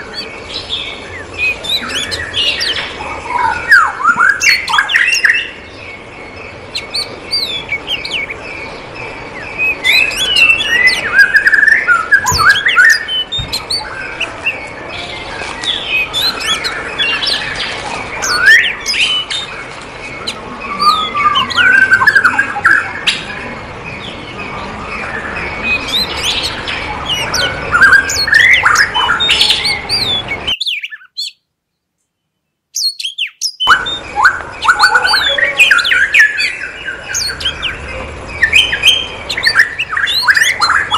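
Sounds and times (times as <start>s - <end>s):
many birds chirping and whistling: 0.0s - 31.4s, 32.8s - 40.9s.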